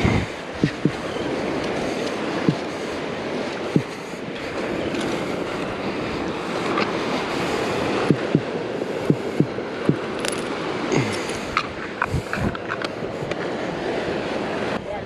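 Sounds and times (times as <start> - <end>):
ocean surf washing onto beach: 0.0 - 15.0
wind buffeting microphone: 0.0 - 15.0.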